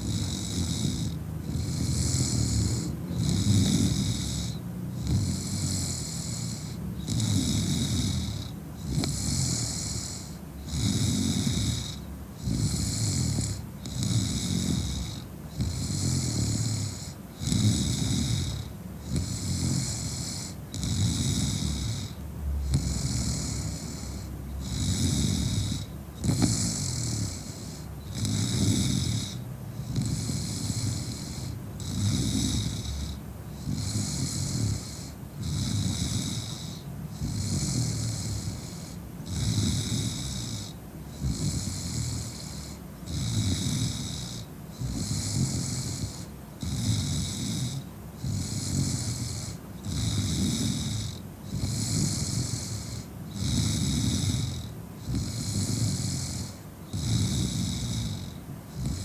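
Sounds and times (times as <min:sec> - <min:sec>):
woman snoring: 0:00.0 - 0:59.0.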